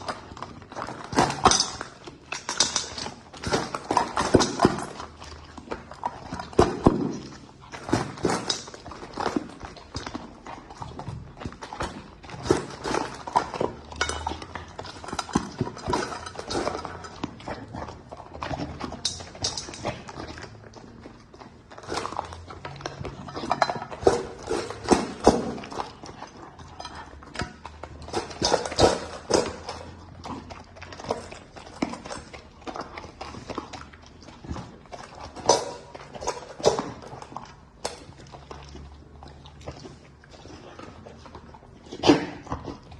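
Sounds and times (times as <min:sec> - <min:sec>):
dog eating crunching: 0:00.0 - 0:42.9.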